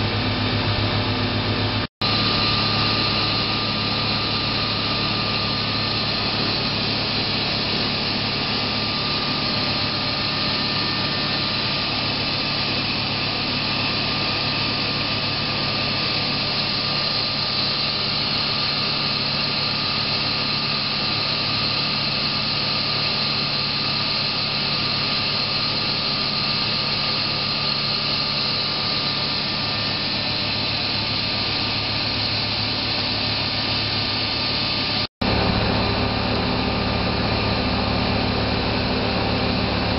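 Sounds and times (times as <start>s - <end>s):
book saw running: 2.0s - 39.9s.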